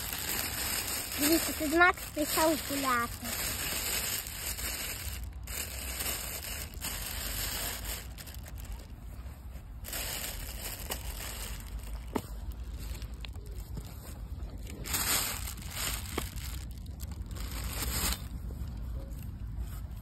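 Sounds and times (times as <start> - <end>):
plastic bin bag crinkling: 0.0 - 9.0, 9.8 - 18.5.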